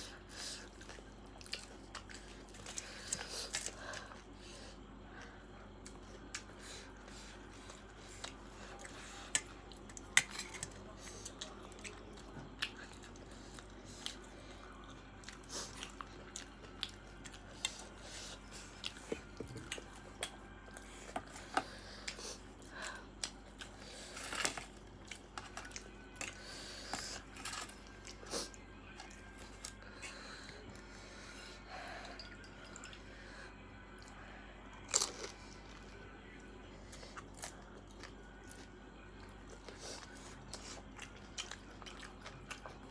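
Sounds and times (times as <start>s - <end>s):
chewing: 0.0s - 4.3s, 5.2s - 42.9s
low background hum: 0.0s - 42.9s.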